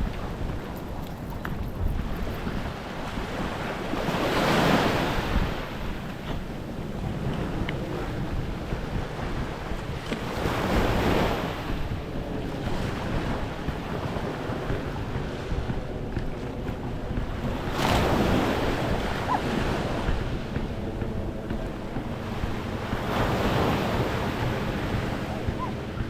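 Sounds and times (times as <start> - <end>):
small waves washing onto sand: 0.0 - 26.0
wind buffeting microphone: 0.0 - 26.0.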